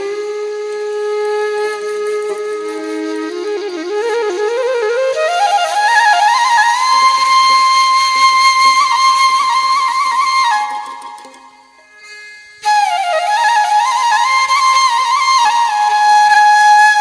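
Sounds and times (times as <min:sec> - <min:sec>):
solo flute melody: 0:00.0 - 0:17.0.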